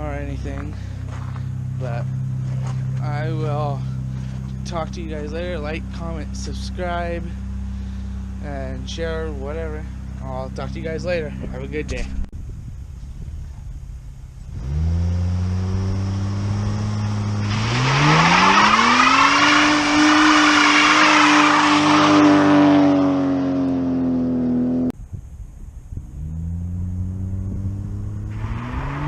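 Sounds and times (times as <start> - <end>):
car engine revving: 0.0 - 12.2, 13.0 - 25.0, 26.0 - 29.0.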